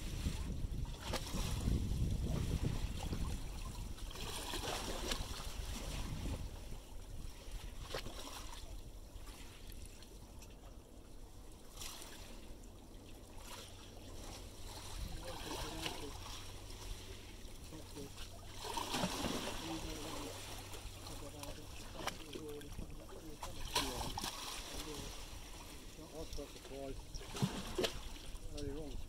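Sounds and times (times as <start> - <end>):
waves lapping against stone wall: 0.0 - 29.0.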